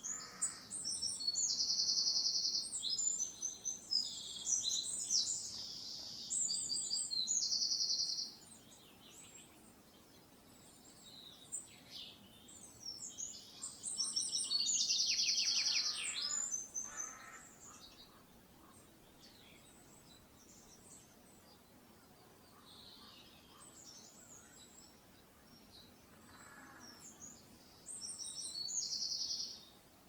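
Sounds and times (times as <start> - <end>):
songbird trilling and warbling: 0.0 - 10.2, 10.8 - 29.7.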